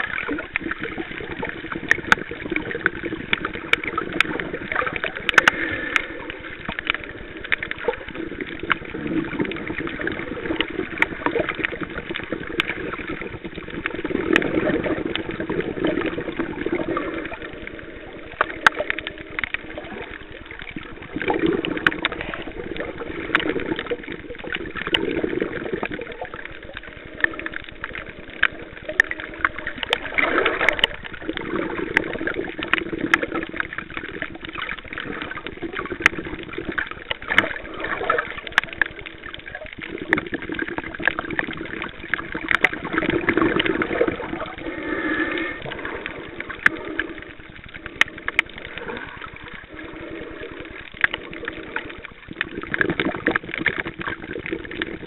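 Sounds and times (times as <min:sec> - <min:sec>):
muffled underwater sloshing: 0:00.0 - 0:55.0
small clicks and crackles: 0:00.0 - 0:55.0.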